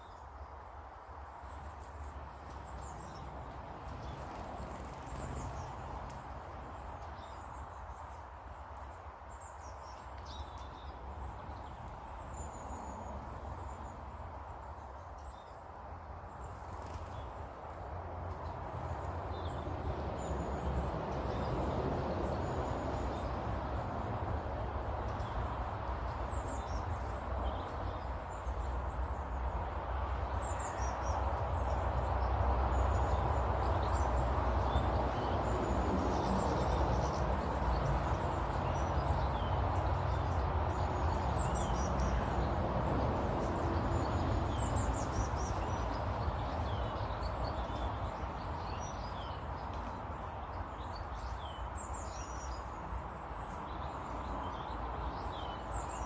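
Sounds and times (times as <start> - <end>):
small birds chirping: 0.0 - 23.8, 24.6 - 56.0.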